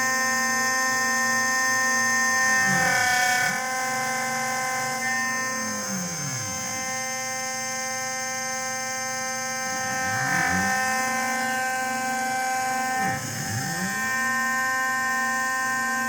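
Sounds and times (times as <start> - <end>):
milling machine motors whining: 0.0 - 16.0.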